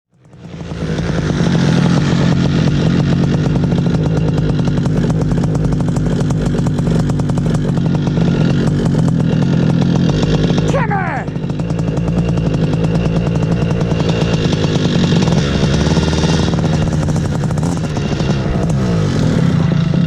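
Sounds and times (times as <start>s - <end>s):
paramotor engine buzzing: 0.2s - 20.0s.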